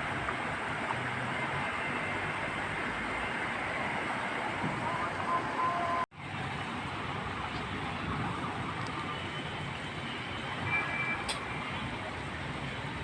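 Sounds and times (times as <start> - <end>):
wet street noise: 0.0 - 13.0.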